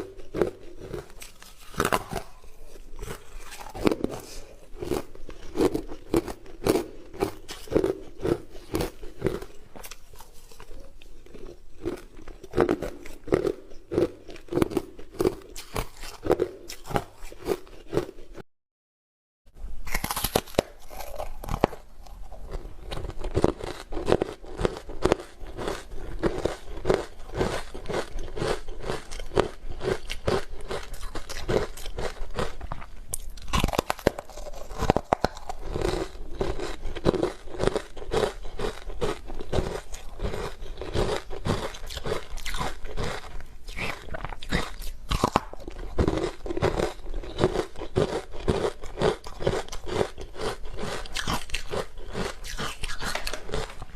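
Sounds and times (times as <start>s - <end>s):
ice being chewed: 0.0s - 18.4s, 19.9s - 53.9s.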